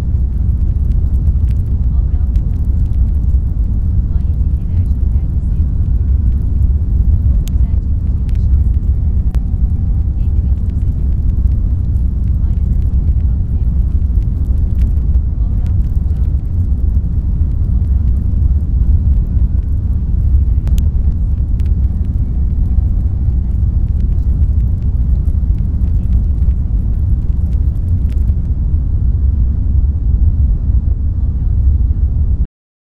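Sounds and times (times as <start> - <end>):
low rumbling noise: 0.0 - 32.5
faint clicks: 0.2 - 28.5.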